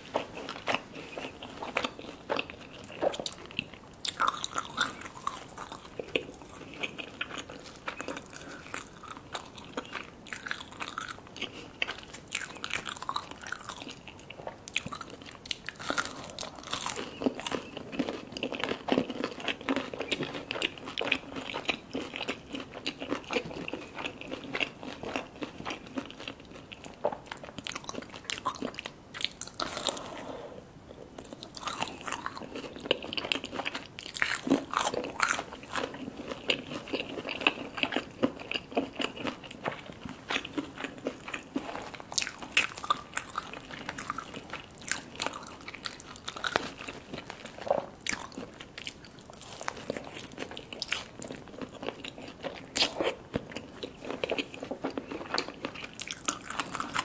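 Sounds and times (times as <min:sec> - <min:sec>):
crunching fried food: 0:00.0 - 0:30.2, 0:31.2 - 0:57.0.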